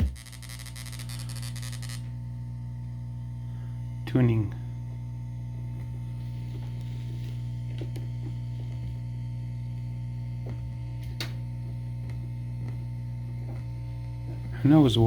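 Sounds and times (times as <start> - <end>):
electrical hum from speakers: 0.0 - 15.0.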